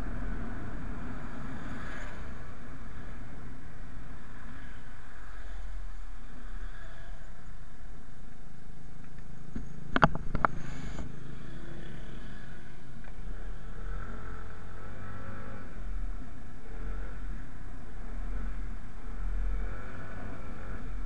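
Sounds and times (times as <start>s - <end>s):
motor scooter engine rumble: 0.0s - 21.0s
wind and road noise: 0.0s - 21.0s.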